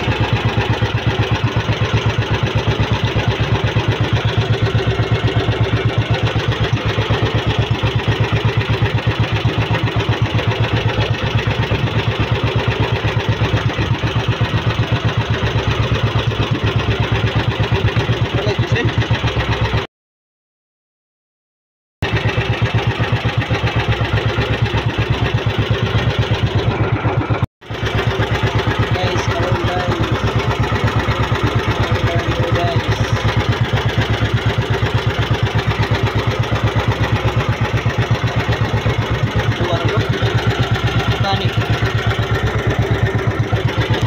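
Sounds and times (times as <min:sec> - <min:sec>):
boat engine chugging: 0:00.0 - 0:19.9, 0:22.0 - 0:44.0.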